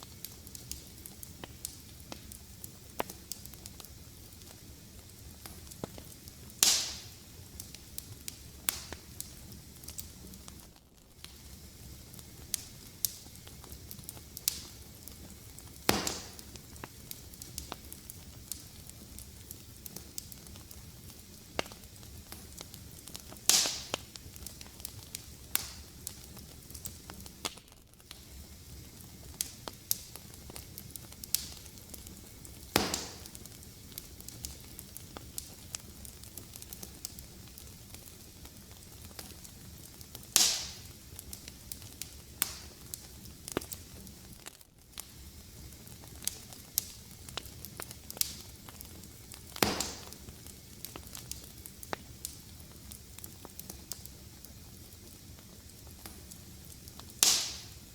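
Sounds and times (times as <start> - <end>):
fire crackling: 0.0 - 57.9
loud fire pops: 0.0 - 57.9.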